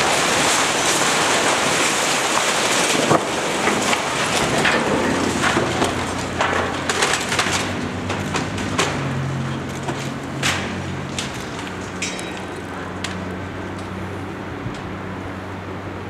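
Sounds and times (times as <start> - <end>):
debris cracking and clattering: 0.0 - 14.0
rumble of falling rubble: 0.0 - 15.0.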